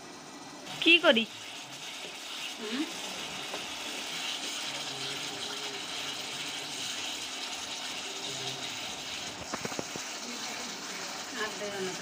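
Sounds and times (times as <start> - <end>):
gravy sizzling in a frying pan: 0.0 - 12.0.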